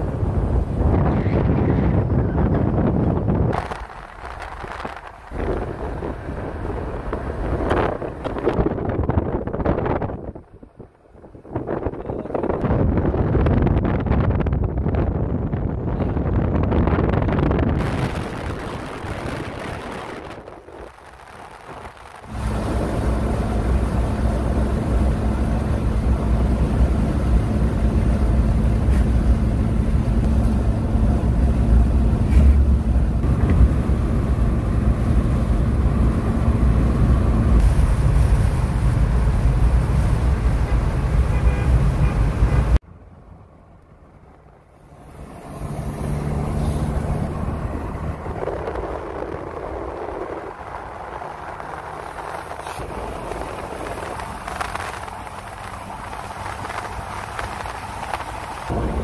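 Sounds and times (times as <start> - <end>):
wind noise: 0.0 - 42.8, 44.0 - 59.0
car engine rumble: 0.0 - 59.0.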